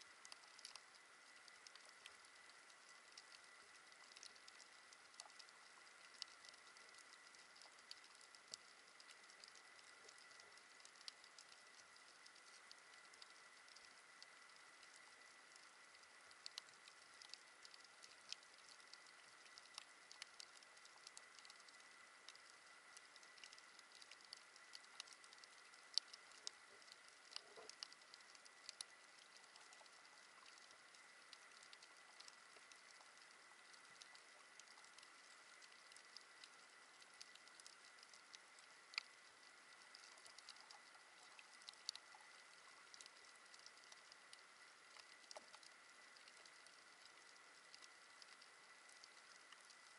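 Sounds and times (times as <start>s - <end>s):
snapping shrimp clicks underwater: 0.0s - 49.9s.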